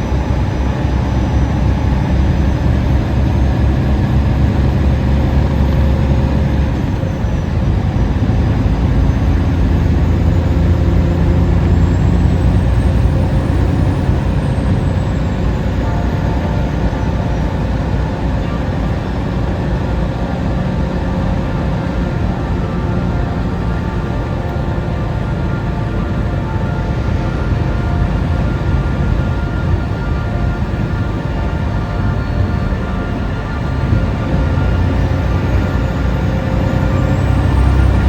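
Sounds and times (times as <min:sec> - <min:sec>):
road noise: 0:00.0 - 0:38.0
truck engine drone: 0:00.0 - 0:38.0.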